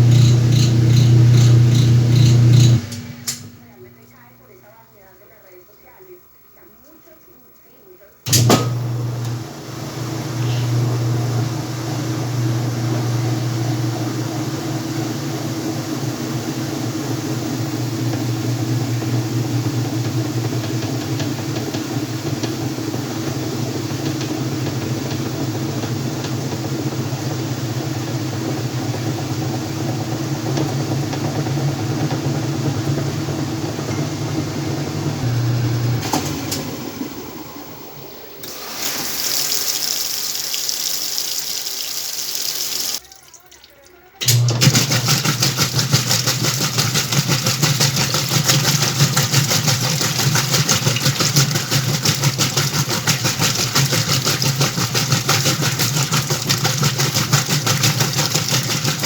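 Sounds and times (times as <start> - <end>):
washing machine motor hum: 0.0 - 4.8, 8.2 - 43.1, 44.1 - 59.0
water rushing into tub: 8.3 - 59.0.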